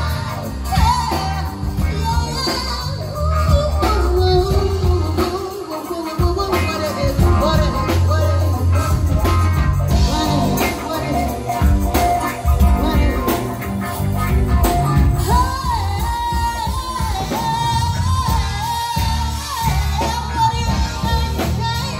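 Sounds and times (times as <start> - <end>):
live soul band: 0.0 - 21.9
person singing: 0.0 - 21.9.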